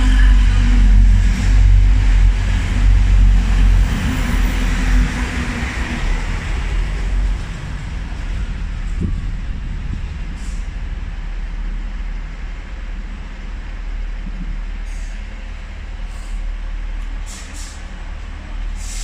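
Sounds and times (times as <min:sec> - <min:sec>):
diesel train engines rumbling: 0:00.0 - 0:19.0
train wheels on rail: 0:00.0 - 0:19.0.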